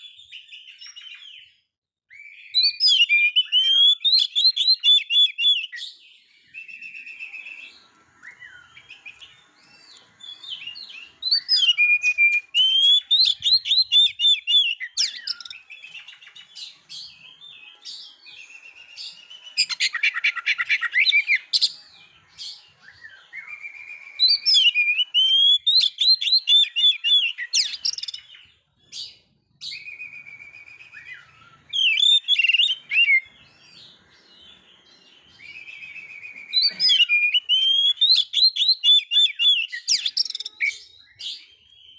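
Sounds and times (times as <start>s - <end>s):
bird singing whistled phrases: 0.0s - 41.9s.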